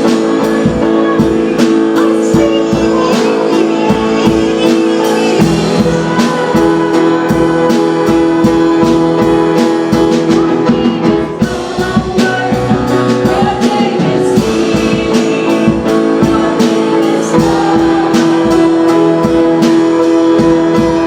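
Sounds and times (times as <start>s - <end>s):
drum kit beat: 0.0s - 21.0s
guitar: 0.0s - 21.0s
person singing: 0.0s - 21.0s.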